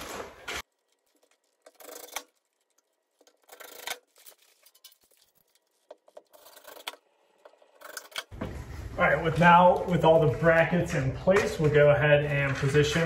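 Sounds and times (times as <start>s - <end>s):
scratching and rustling: 0.0s - 13.0s.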